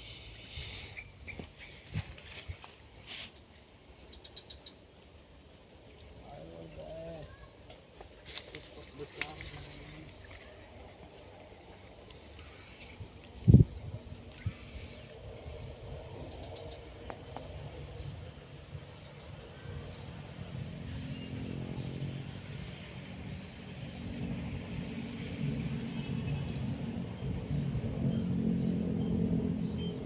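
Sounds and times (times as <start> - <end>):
high insect-like whine: 0.0 - 30.0.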